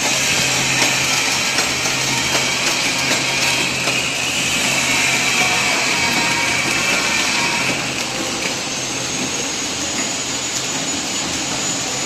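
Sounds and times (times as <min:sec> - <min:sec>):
packaging machine whirring: 0:00.0 - 0:12.0.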